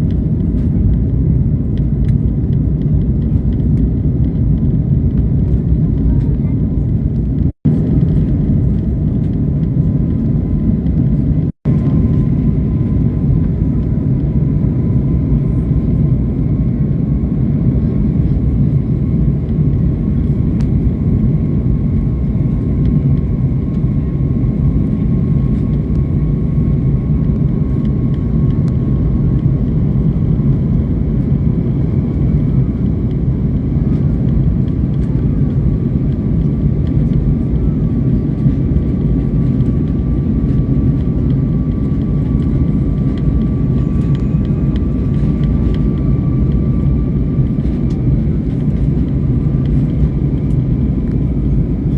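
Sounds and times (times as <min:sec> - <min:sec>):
airplane engines rumbling: 0:00.0 - 0:51.9
faint steady whine: 0:00.0 - 0:51.9.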